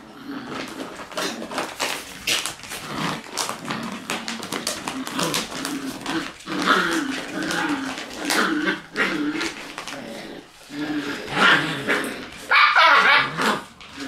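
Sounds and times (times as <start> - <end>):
puppies growling: 0.0 - 14.0
bag rustling and crinkling: 0.2 - 14.0
claws scrabbling: 0.3 - 14.0.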